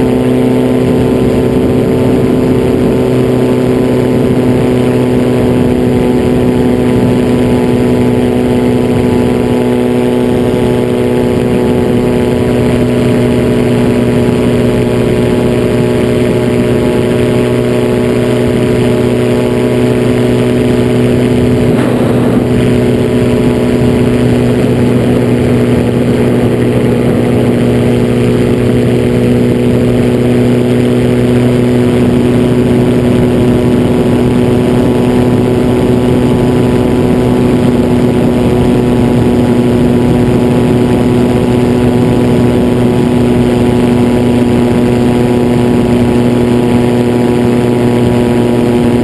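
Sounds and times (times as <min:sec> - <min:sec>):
aircraft engine and propeller droning: 0:00.0 - 0:49.0
airflow rushing: 0:00.0 - 0:49.0.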